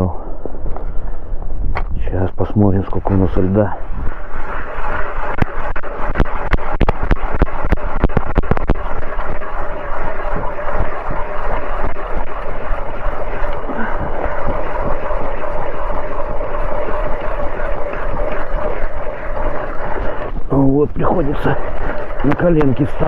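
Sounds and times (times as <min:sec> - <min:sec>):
wind buffeting microphone: 0:00.0 - 0:23.0
ice auger grinding into ice: 0:02.8 - 0:23.0.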